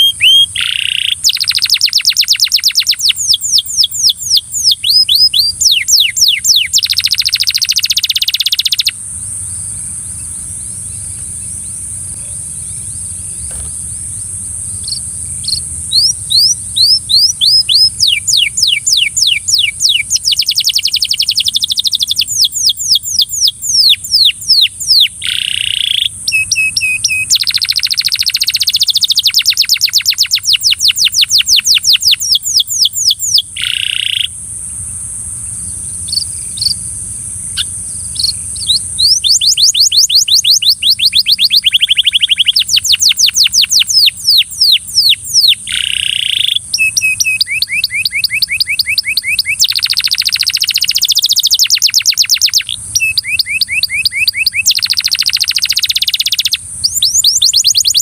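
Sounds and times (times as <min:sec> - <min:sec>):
canary singing: 0:00.0 - 0:34.4, 0:37.5 - 0:58.0.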